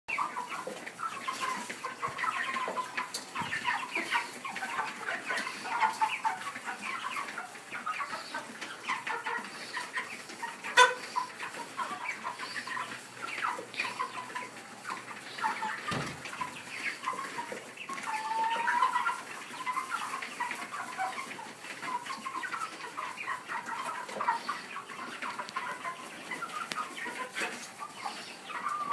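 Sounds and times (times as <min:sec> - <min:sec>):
chickens clucking and peeping: 0:00.1 - 0:28.9.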